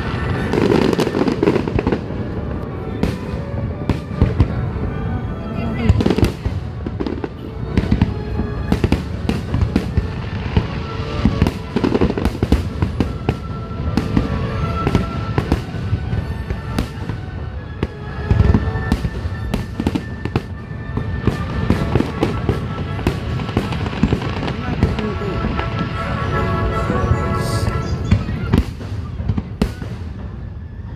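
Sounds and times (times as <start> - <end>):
fireworks bursts: 0.0 - 30.9.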